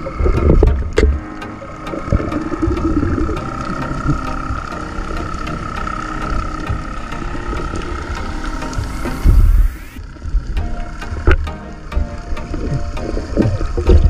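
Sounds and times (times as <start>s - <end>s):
steady high whine: 0.0s - 13.4s
muffled underwater rumble: 0.0s - 14.0s.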